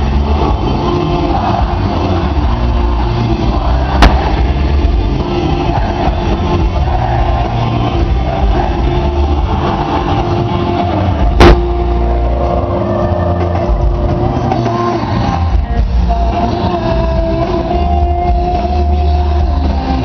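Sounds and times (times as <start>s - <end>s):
loud live band music: 0.0s - 20.0s.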